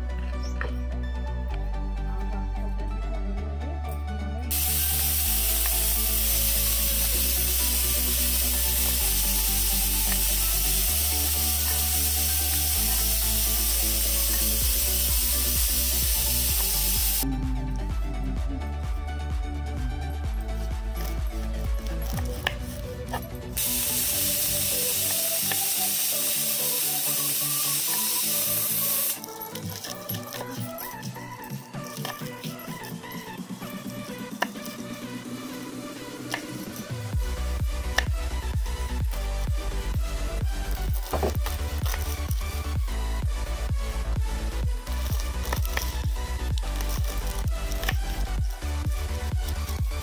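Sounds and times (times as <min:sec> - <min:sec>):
background music with bass line: 0:00.0 - 0:50.0.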